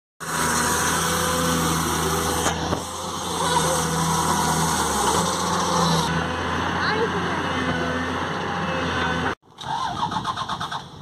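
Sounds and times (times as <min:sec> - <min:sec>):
excavator diesel engine running: 0:00.2 - 0:11.0.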